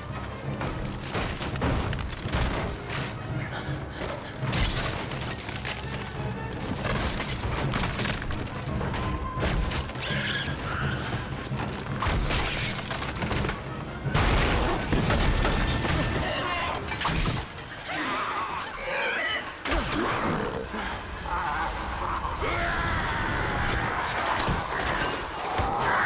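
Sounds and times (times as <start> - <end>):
tense orchestral music: 0.0 - 26.0.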